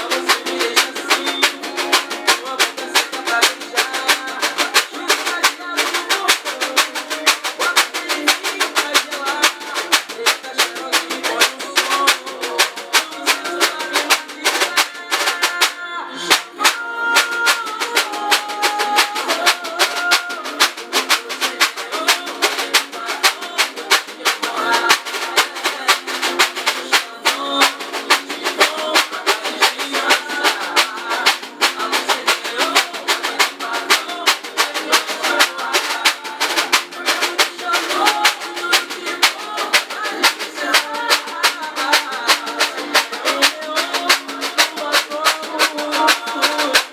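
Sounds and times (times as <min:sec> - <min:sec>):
person singing: 0:00.0 - 0:46.9
scraper rhythm: 0:00.0 - 0:46.9.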